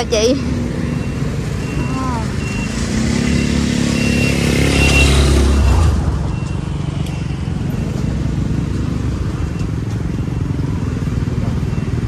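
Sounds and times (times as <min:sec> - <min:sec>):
street market background noise: 0:00.0 - 0:12.0.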